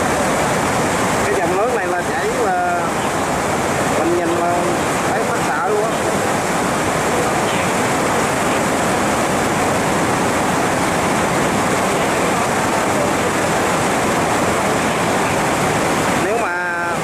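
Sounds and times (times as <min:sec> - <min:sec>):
water rushing through dam gates: 0:00.0 - 0:17.0.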